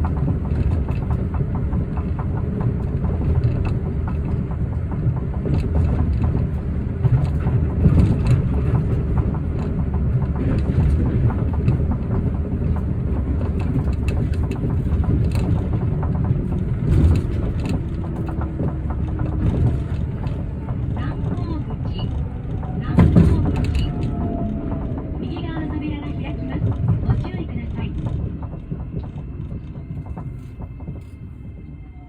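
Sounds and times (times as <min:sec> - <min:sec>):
knocks and rattles: 0:00.0 - 0:31.8
train rumbling: 0:00.0 - 0:32.0.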